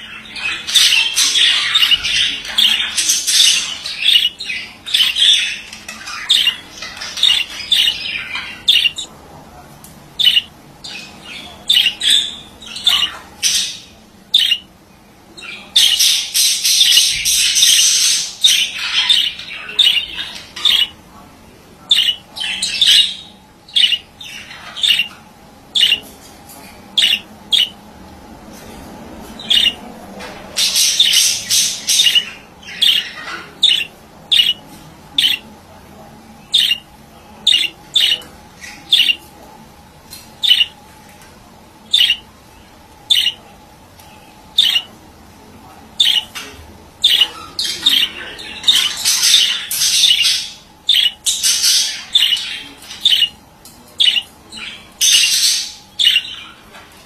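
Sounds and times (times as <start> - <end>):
budgerigar chirping and chattering: 0.0 - 9.1, 10.2 - 14.7, 15.4 - 21.0, 21.8 - 26.1, 26.9 - 27.8, 29.4 - 29.9, 30.5 - 35.5, 36.4 - 39.3, 40.4 - 40.8, 41.8 - 42.4, 43.0 - 45.0, 45.9 - 56.7.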